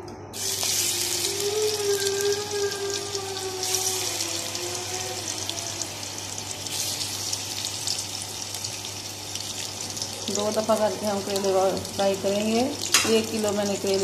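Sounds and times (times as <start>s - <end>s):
vegetables sizzling in hot fat: 0.3s - 14.0s.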